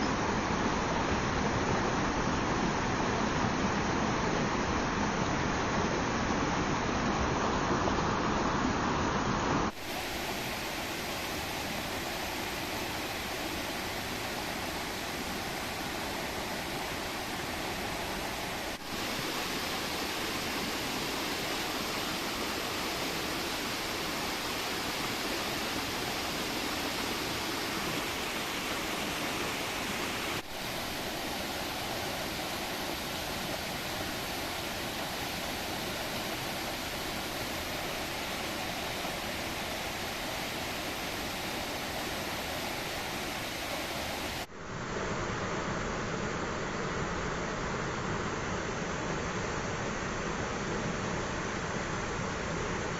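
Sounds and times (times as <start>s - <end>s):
river water rushing: 0.0s - 52.9s.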